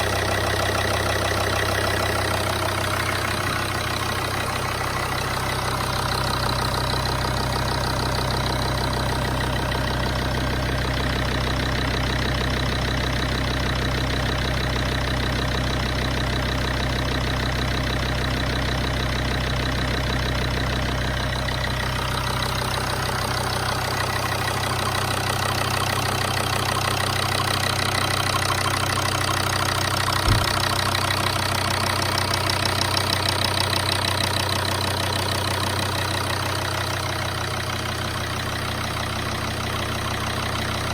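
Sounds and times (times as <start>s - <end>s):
diesel engine idling harshly: 0.0s - 40.9s.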